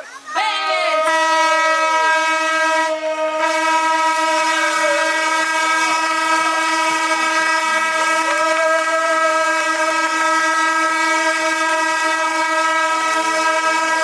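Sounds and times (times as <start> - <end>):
buzzing start horn blast: 0.5 - 14.0.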